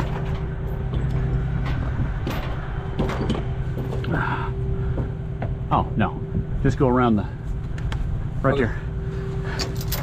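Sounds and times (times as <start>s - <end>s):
constant tone: 0.0s - 10.0s.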